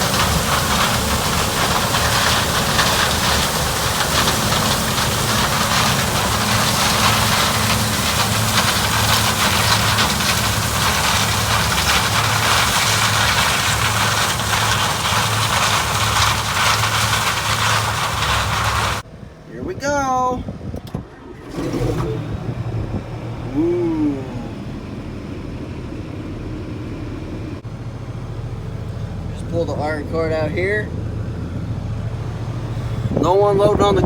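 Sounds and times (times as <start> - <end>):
diesel engine running: 0.0 - 19.5, 20.5 - 34.0.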